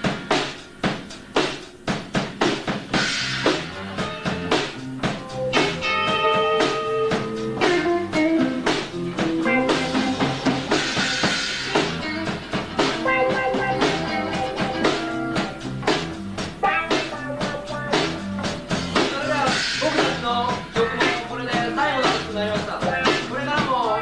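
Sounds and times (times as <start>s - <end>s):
drum kit hits: 0.0s - 23.9s
bass and electric guitars: 3.0s - 24.0s.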